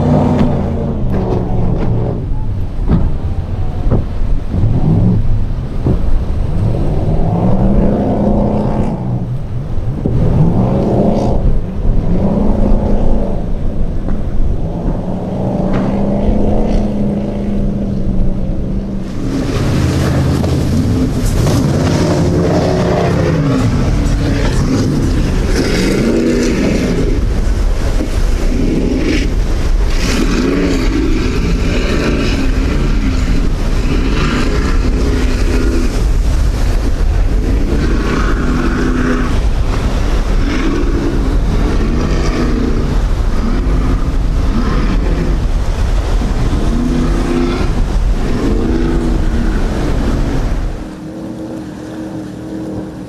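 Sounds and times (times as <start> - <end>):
speedboat engines running hard: 0.0 - 53.0
wind and spray noise: 0.0 - 53.0.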